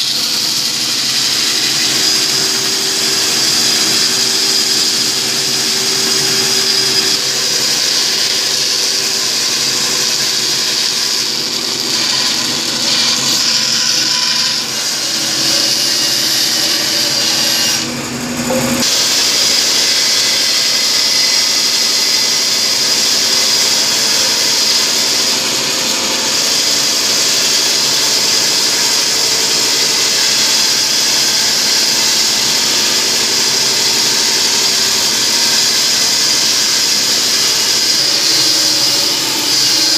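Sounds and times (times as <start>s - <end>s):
bandsaw motor hum: 0.0s - 39.9s.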